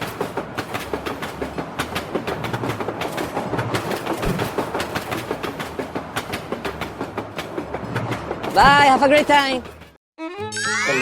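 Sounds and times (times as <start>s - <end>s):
train rumble: 0.0s - 10.0s
train wheels clicking over rail joints: 0.0s - 10.0s.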